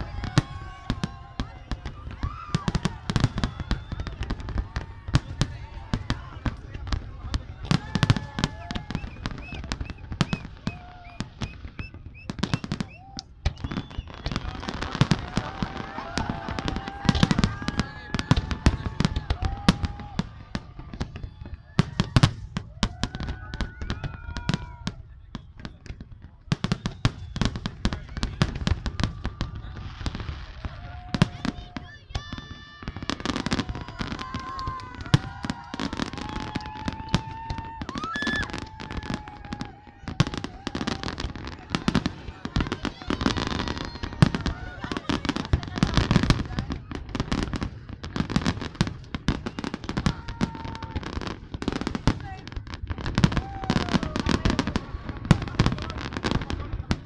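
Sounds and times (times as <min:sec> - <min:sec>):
fireworks bangs and pops: 0:00.0 - 0:57.0.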